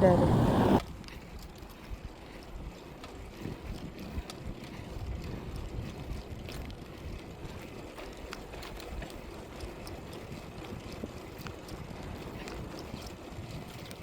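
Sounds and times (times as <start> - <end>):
wind buffeting microphone: 0.0 - 14.0
small clicks and rattles: 0.8 - 14.0.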